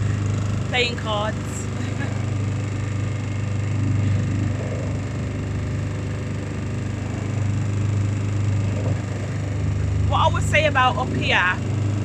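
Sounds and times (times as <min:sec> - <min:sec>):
motor boat engine running: 0:00.0 - 0:12.0.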